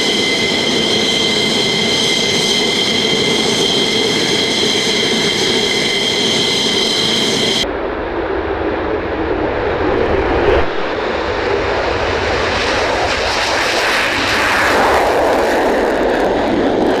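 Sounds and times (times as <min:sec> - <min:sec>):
jet engine roar on takeoff: 0:00.0 - 0:17.0.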